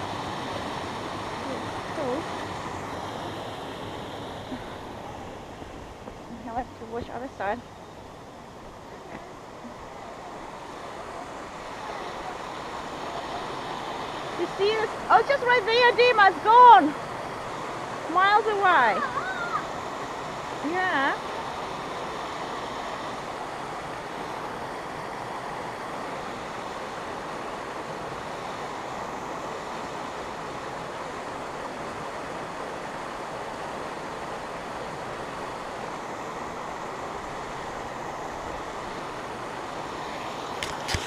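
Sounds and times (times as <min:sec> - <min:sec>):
stream rushing over rocks: 0:00.0 - 0:41.0.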